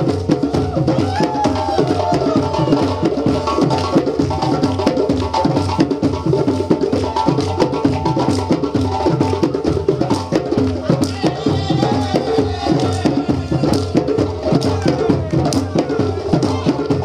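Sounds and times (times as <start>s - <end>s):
djembe drum ensemble playing: 0.0s - 17.0s.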